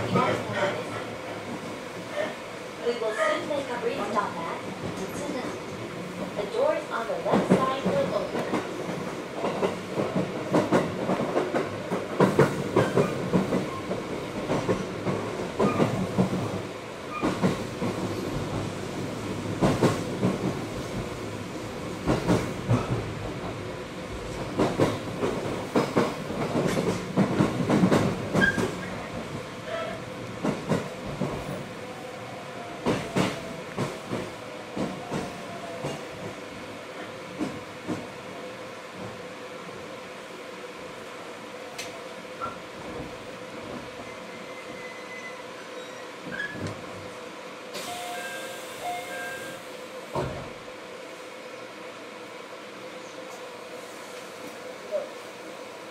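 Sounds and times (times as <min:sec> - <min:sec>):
train interior rumble: 0:00.0 - 0:55.9.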